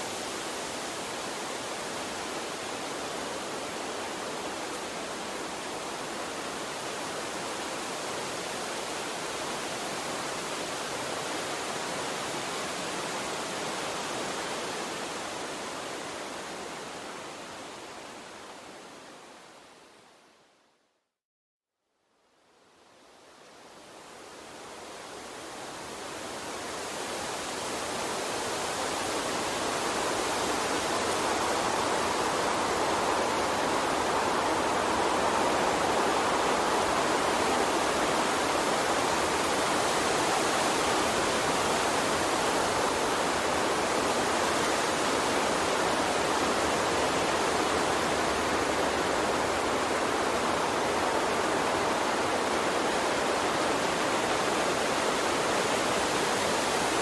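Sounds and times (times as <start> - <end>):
stream water rushing: 0.0 - 19.4, 23.4 - 57.0.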